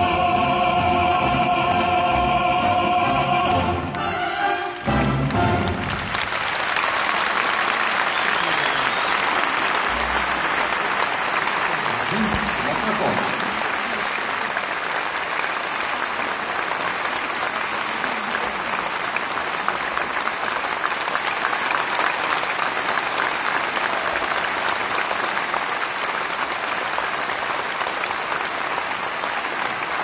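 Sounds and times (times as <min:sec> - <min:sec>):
large audience applauding: 0:05.1 - 0:30.0.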